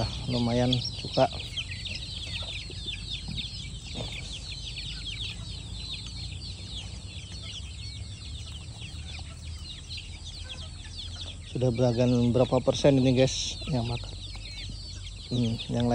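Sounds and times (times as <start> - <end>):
chicks peeping: 0.0 - 15.9.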